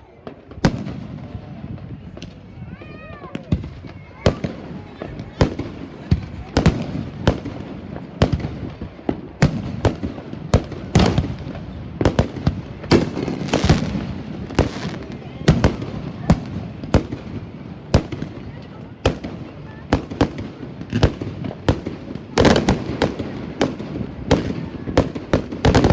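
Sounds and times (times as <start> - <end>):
fireworks banging: 0.0 - 25.9
fireworks crackling: 0.0 - 25.9.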